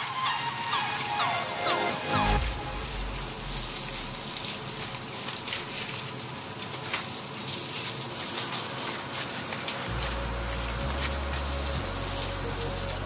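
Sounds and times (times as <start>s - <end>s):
ribs sizzling in foil: 2.1s - 13.0s.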